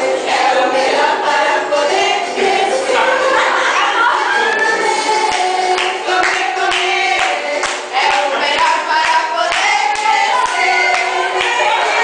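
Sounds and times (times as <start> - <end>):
people singing: 0.0 - 12.0
rhythmic hand-clapping: 0.0 - 12.0.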